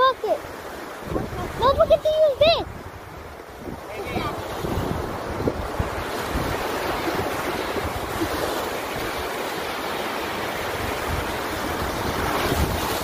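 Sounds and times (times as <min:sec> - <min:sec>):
ocean surf on beach: 0:00.0 - 0:13.0
wind rumbling on microphone: 0:00.9 - 0:13.0.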